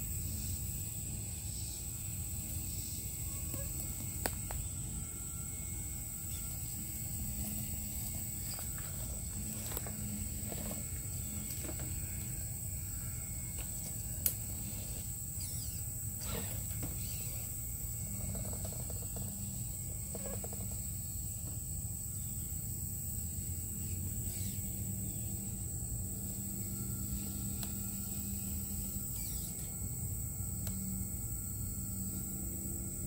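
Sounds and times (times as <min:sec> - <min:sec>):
electric motor hum: 0:00.0 - 0:33.0
high insect drone: 0:00.0 - 0:33.0.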